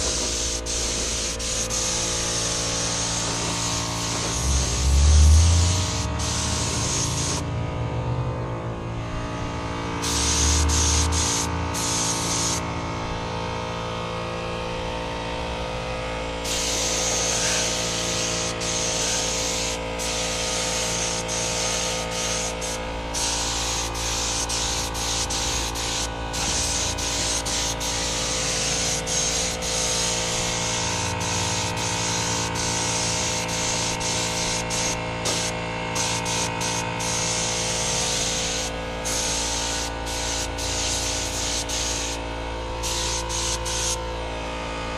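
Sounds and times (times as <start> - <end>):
spray gun hissing: 0.0 - 7.4, 10.0 - 12.6, 16.4 - 44.0
steady hum: 0.0 - 44.9.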